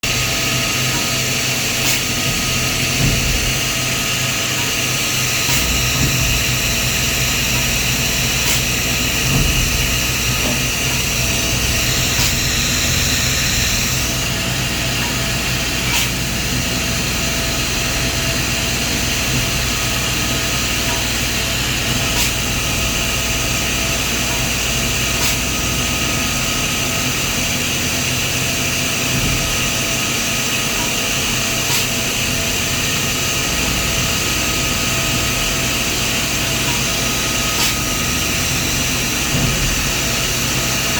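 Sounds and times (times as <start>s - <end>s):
milling machine hum and whine: 0.0s - 40.9s.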